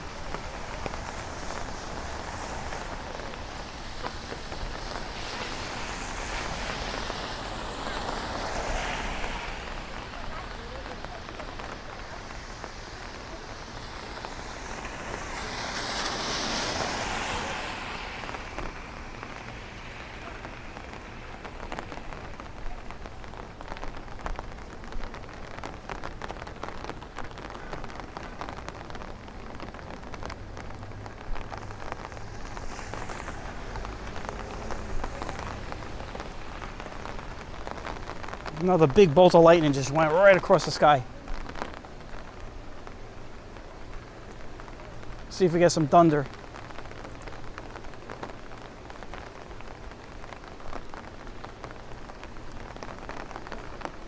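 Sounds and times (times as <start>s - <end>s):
car passing on wet road: 0.0s - 54.0s
steady rain falling: 0.0s - 54.0s.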